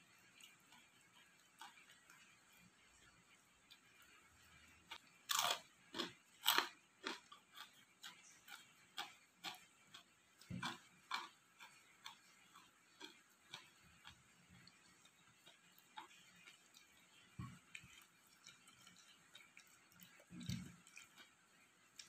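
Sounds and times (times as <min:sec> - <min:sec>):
person chewing crunchy food: 0:00.0 - 0:02.7, 0:03.3 - 0:22.0.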